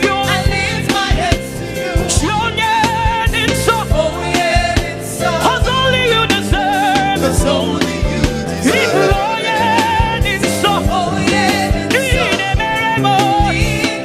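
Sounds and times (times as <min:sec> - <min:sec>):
drum beats: 0:00.0 - 0:14.0
person singing with vibrato: 0:00.0 - 0:14.0
sustained keyboard chords: 0:00.0 - 0:14.0.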